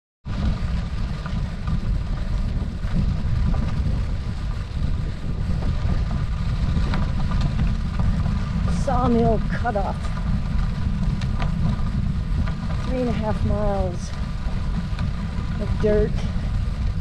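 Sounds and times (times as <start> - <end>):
wind buffeting microphone: 0.2 - 17.0
faint clicks and rattles: 0.4 - 17.0.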